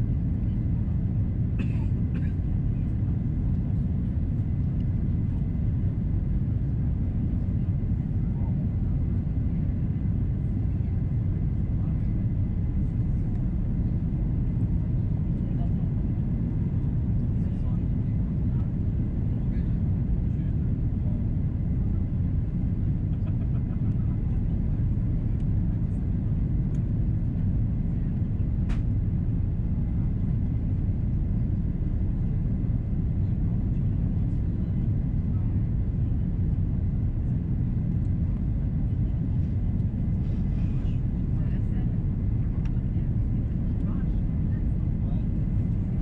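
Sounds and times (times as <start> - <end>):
airplane cabin engine rumble: 0.0 - 46.0.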